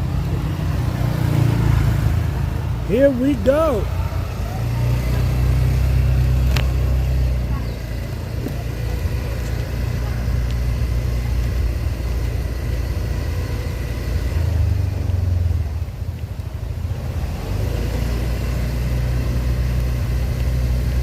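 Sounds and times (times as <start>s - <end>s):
motorbike engine rumble: 0.0s - 21.0s.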